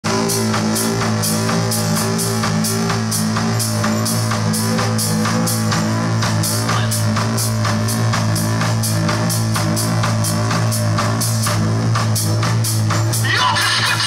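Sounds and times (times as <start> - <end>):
drum kit beat: 0.0 - 14.0.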